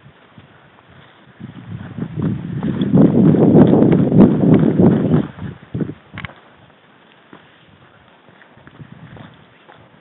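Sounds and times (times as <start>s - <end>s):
footsteps on dirt trail: 0.0s - 10.0s.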